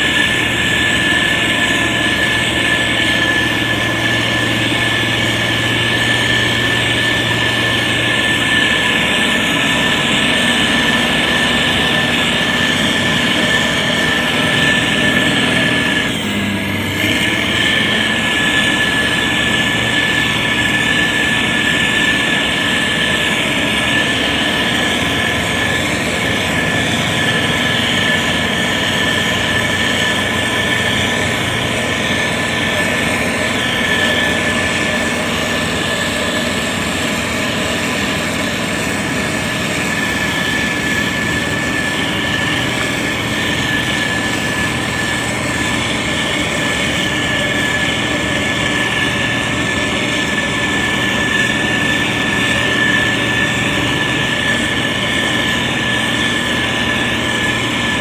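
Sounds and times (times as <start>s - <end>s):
diesel engine running: 0.0s - 58.0s
thin high whine: 0.0s - 58.0s.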